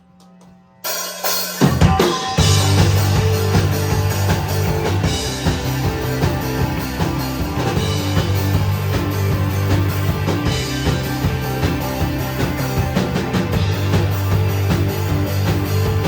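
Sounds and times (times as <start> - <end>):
rock band playing live: 0.8 - 16.0.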